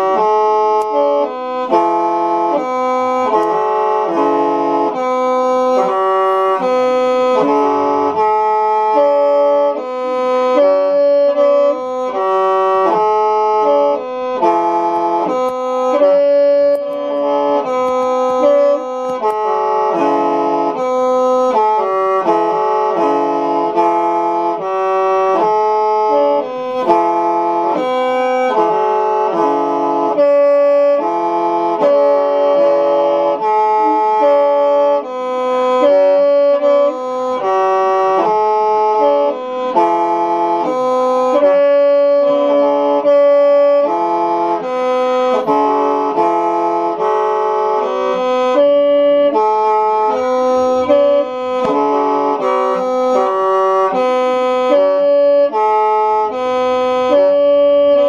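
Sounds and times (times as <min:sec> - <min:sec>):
mouth organ chords: 0:00.0 - 0:58.0.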